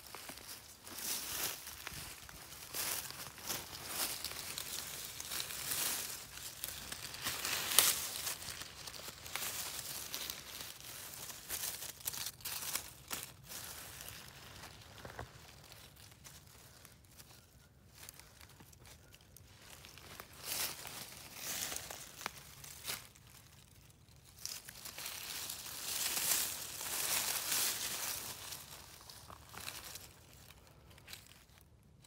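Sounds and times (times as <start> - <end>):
dry leaves rustling and crackling: 0.0 - 32.0.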